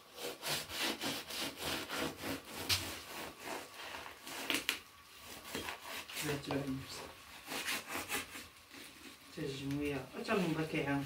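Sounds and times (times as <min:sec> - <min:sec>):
hand saw rasping through bone: 0:00.1 - 0:09.1.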